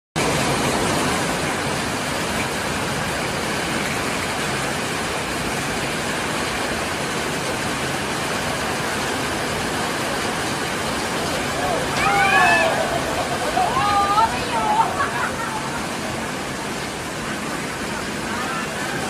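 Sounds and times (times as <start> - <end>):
heavy rain pouring: 0.2 - 19.0.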